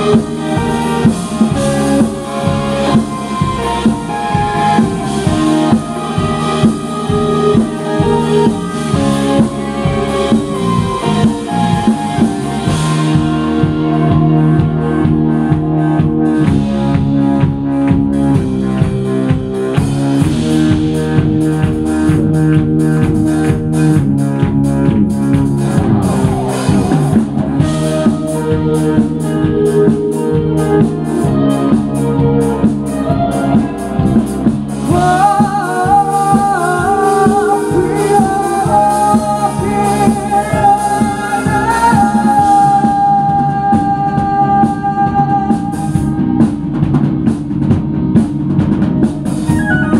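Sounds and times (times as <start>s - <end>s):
drum kit beat: 0.0s - 49.9s
electric guitars: 0.0s - 49.9s
keyboard: 0.0s - 49.9s.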